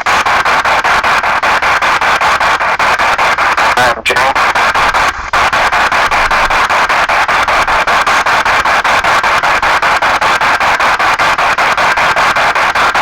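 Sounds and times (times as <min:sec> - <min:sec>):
choppy radio static: 0:00.0 - 0:13.0.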